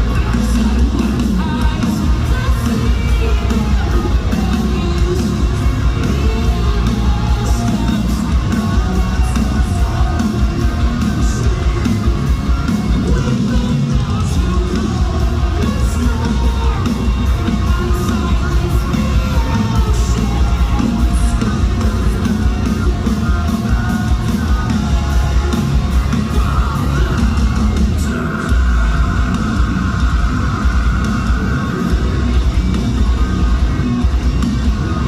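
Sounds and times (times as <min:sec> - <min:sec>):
distorted metal music: 0:00.0 - 0:35.0
drums: 0:00.0 - 0:35.0.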